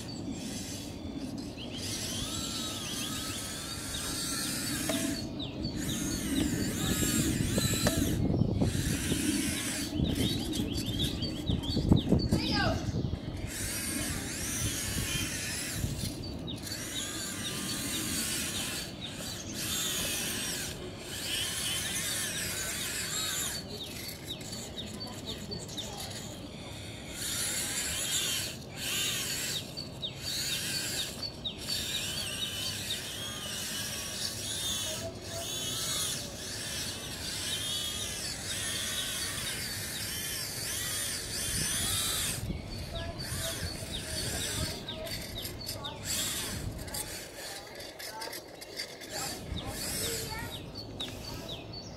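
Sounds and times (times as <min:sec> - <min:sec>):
toy electric motors whining: 0:00.0 - 0:51.9.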